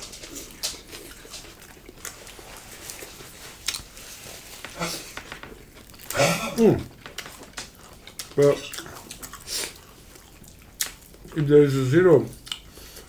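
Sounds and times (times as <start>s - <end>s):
close chewing: 0.0s - 13.0s.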